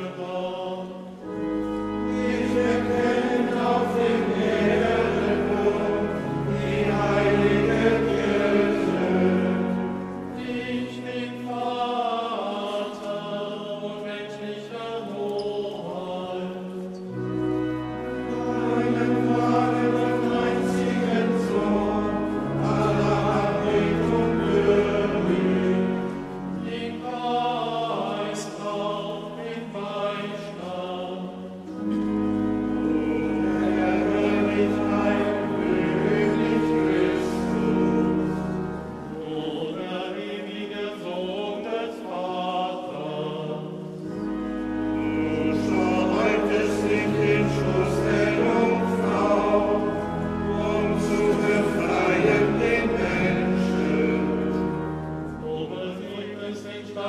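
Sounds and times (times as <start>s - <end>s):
choir singing: 0.0s - 57.0s
organ: 0.0s - 57.0s.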